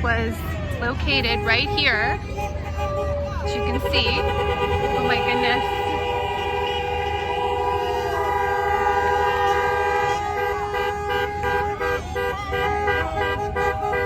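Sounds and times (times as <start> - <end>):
vehicle horns honking: 0.0 - 14.0
voices: 0.0 - 14.0.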